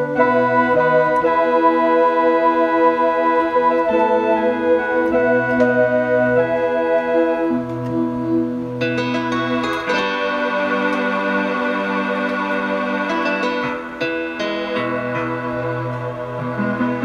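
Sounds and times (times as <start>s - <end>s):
electronic keyboard organ chords: 0.0s - 17.0s.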